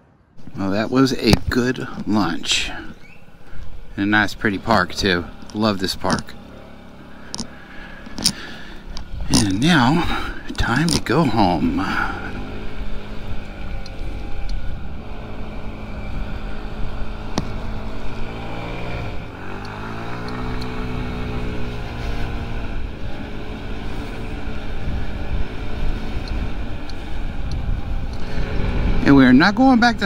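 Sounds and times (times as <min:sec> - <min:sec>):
scooter engine revving: 0:01.8 - 0:30.0.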